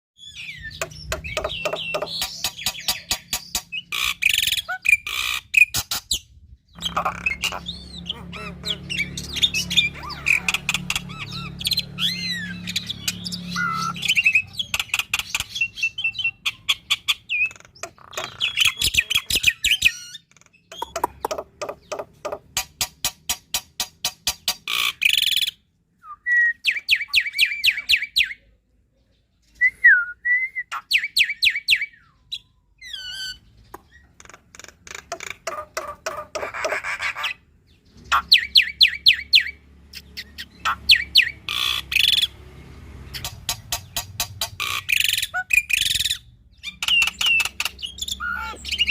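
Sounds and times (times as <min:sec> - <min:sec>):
starling singing: 0:00.2 - 0:28.5, 0:30.6 - 0:48.9.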